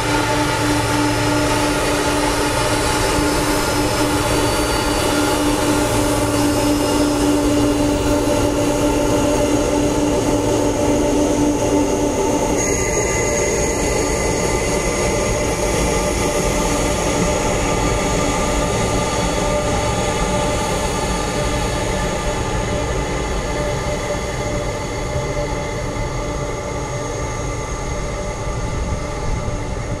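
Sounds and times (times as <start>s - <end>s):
high steady engine whines: 0.0s - 30.0s.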